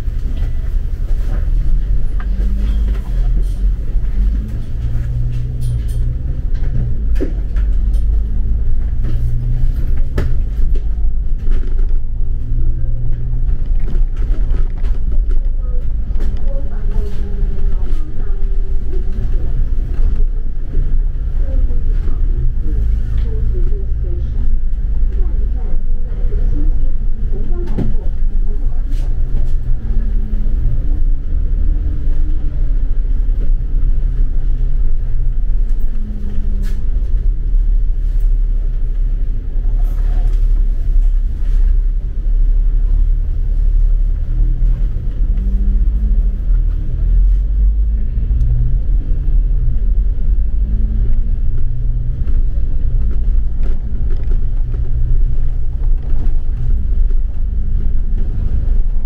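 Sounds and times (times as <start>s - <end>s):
vehicle engine rumble: 0.0s - 59.0s.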